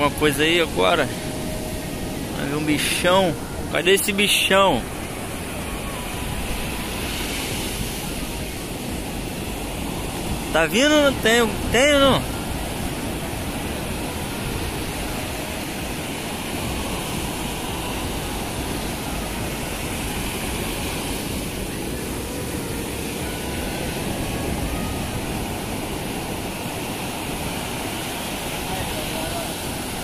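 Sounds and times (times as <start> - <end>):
waves breaking on beach: 0.0 - 30.0.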